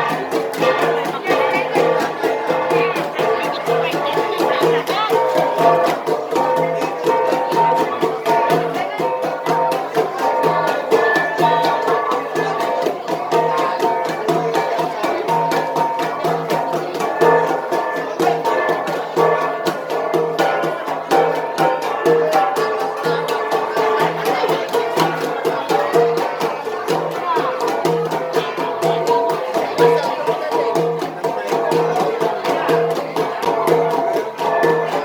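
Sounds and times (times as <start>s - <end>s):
gongs beaten in fast rhythm: 0.0s - 35.0s.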